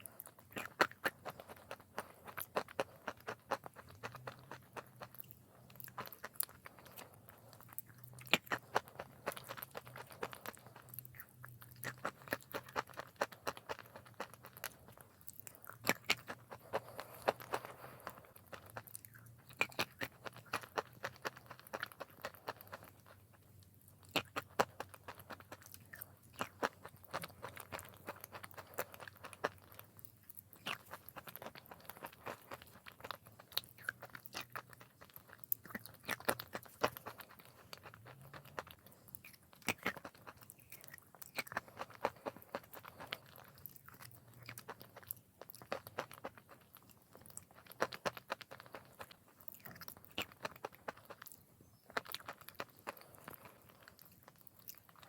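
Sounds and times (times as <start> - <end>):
crunching and chewing chalk: 0.0 - 55.0.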